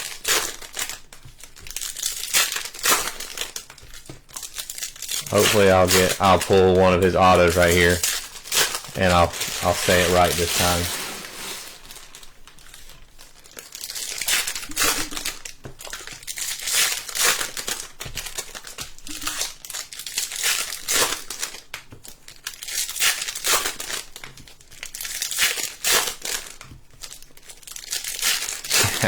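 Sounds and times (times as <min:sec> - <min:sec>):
wrappers tearing and crinkling: 0:00.0 - 0:29.0.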